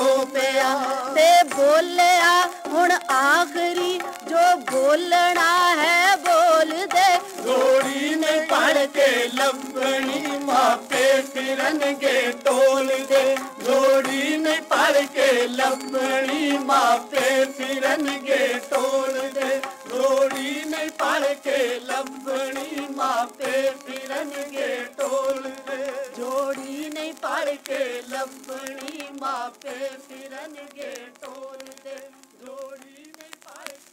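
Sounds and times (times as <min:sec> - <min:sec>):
devotional chant singing: 0:00.0 - 0:33.9
vinyl record crackle: 0:00.0 - 0:33.9.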